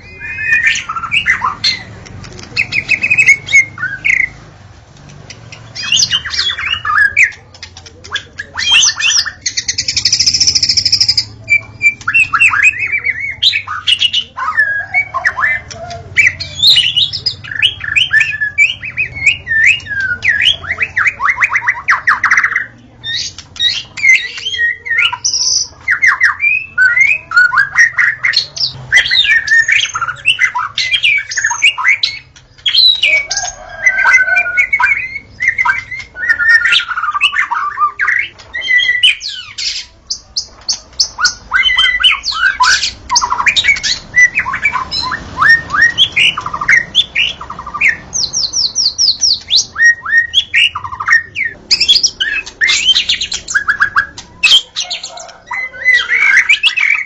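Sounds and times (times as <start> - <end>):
bird singing trills and whistles: 0.0 - 4.4, 5.3 - 57.0.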